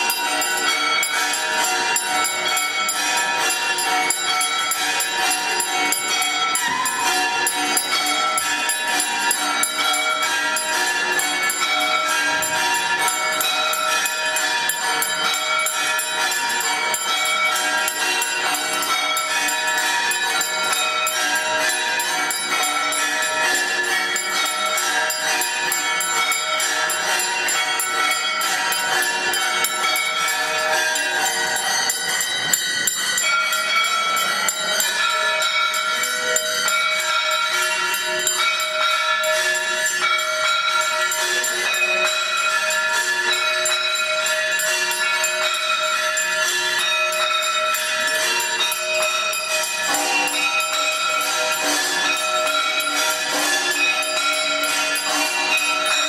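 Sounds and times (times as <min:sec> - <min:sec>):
small jingling bells: 0:00.0 - 0:56.0
temple bells ringing: 0:00.0 - 0:56.0.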